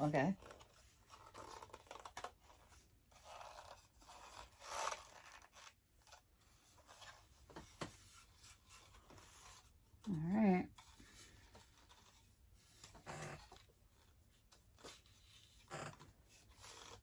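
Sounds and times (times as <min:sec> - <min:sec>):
toy parts scraping and rubbing: 0:00.0 - 0:10.1, 0:10.7 - 0:17.0.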